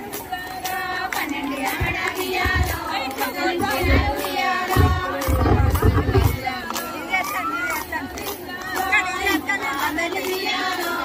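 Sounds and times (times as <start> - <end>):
hand claps: 0.0 - 11.0
women singing folk song: 0.0 - 11.0.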